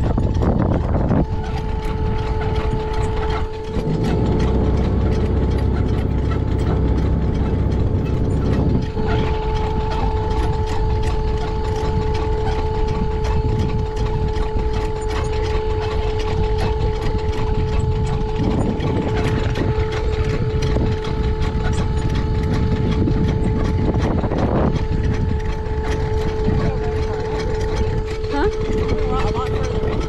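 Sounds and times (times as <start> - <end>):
hydraulic anchor winch whining: 0.0 - 30.0
wind on microphone: 0.0 - 30.0.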